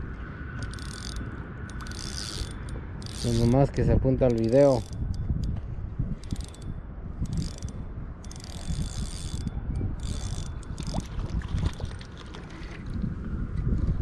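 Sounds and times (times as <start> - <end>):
fishing reel gears whirring: 0.6 - 5.5, 6.2 - 12.9.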